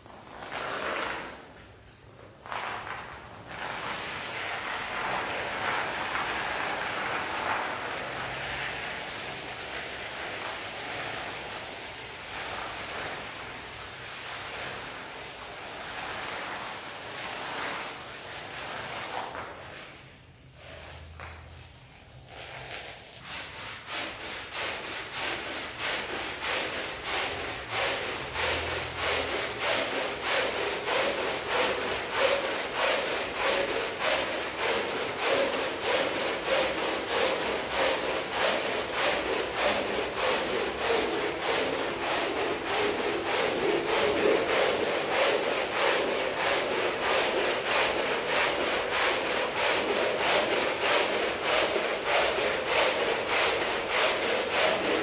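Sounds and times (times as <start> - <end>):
stiff brush scrubbing a rug: 0.0 - 1.6, 2.4 - 21.1, 21.9 - 55.0.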